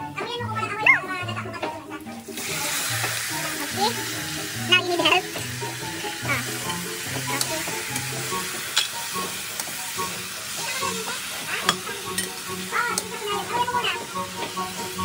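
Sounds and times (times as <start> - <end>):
chicken sizzling in frying pan: 1.4 - 15.0.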